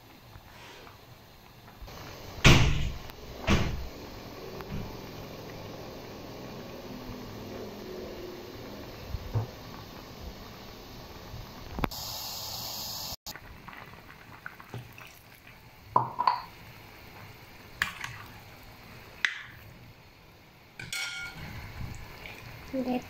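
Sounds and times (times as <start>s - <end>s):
pot boiling and bubbling: 0.0s - 23.0s.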